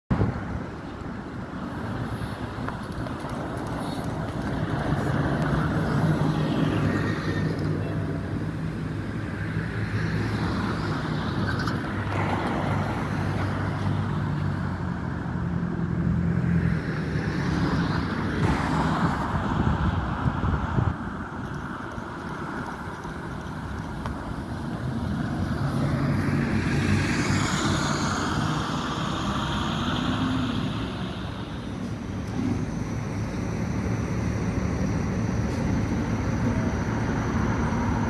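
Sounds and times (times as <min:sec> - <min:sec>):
cars passing close by: 0:00.1 - 0:38.0
low hum of engines: 0:00.1 - 0:38.0.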